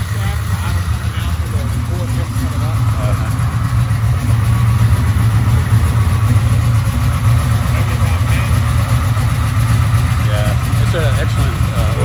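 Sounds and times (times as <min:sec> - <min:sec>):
engine idling through open headers: 0:00.0 - 0:12.0.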